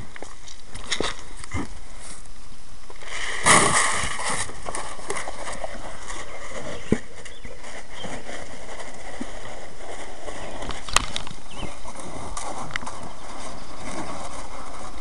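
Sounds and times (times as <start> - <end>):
steers eating feed: 0.0 - 15.0.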